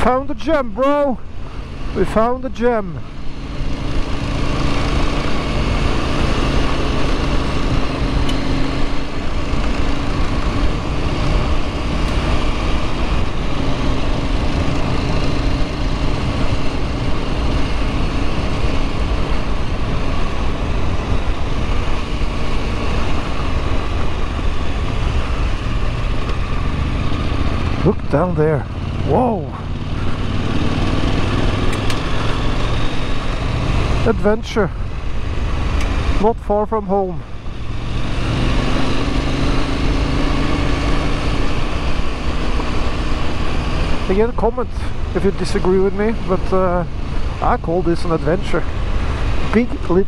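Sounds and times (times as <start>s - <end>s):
motorcycle engine cruising: 0.0s - 50.0s.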